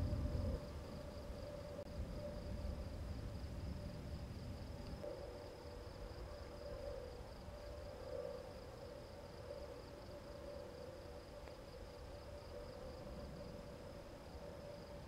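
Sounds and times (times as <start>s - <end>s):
faint low rumble: 0.0s - 15.0s
night insects chirping: 0.0s - 15.0s.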